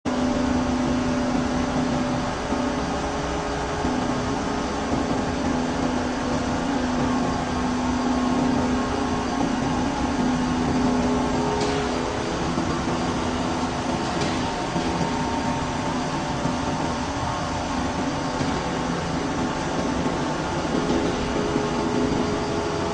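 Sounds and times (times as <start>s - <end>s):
constant low hum: 0.1s - 22.9s
metal-cutting machine running: 0.1s - 22.9s.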